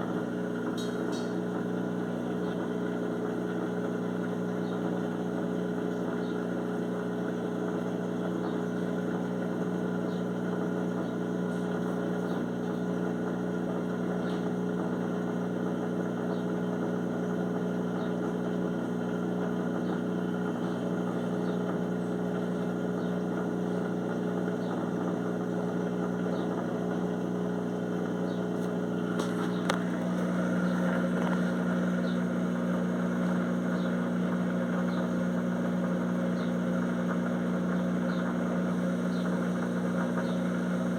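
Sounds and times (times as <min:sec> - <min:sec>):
washing machine spin hum: 0:00.0 - 0:40.9.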